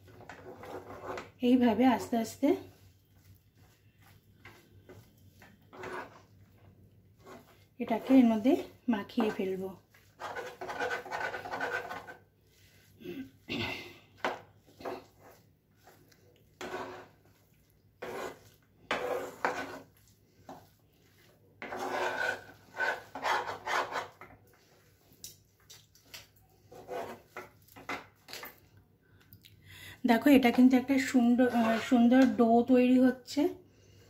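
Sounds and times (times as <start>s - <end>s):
metal spatula scraping a pan: 0.0s - 6.3s, 7.2s - 25.1s, 26.6s - 28.4s, 31.0s - 32.4s.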